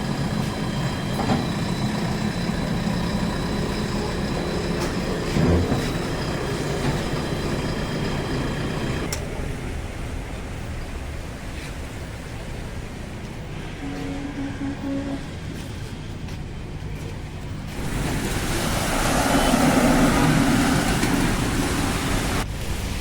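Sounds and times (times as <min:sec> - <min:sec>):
diesel engine running: 0:00.0 - 0:22.5.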